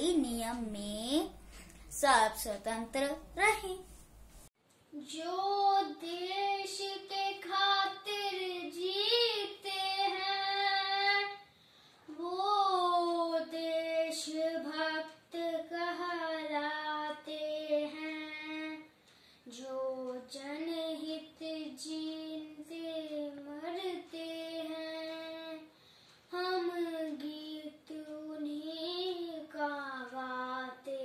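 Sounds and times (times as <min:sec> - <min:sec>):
boy singing unaccompanied: 0:04.9 - 0:11.4, 0:12.1 - 0:25.7, 0:26.3 - 0:31.0.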